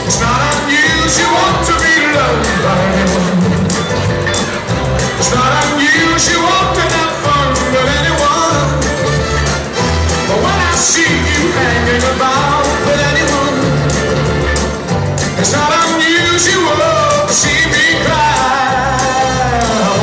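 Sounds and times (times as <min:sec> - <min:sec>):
person singing: 0:00.0 - 0:04.0, 0:05.0 - 0:09.2, 0:10.2 - 0:14.6, 0:15.3 - 0:20.0
repeating bass beat: 0:00.0 - 0:20.0.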